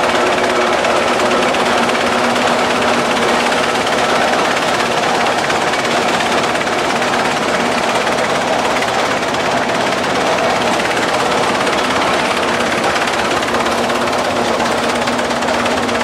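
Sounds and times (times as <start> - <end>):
tractor engine running under load: 0.0 - 16.0.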